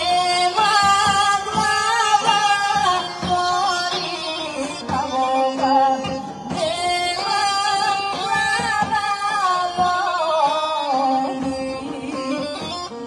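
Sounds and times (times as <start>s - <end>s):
bagpipe ensemble: 0.0s - 13.0s
drum beating: 0.0s - 13.0s
woman singing: 0.0s - 13.0s.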